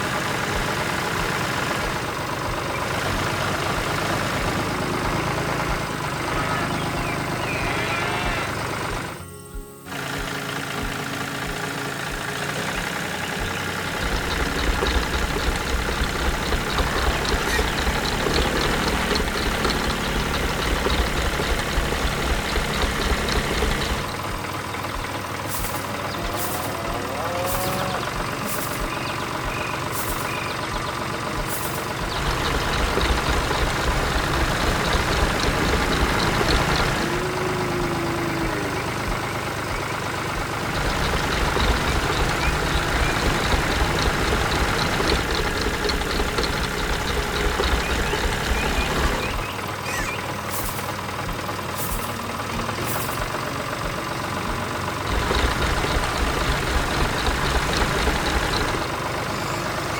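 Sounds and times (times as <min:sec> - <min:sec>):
diesel engine throbbing: 0:00.0 - 0:59.9.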